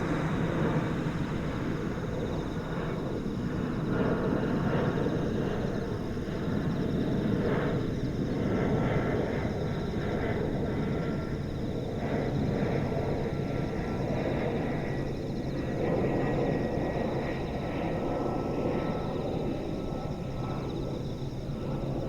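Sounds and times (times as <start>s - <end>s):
jet airliner flying over: 0.0s - 22.0s.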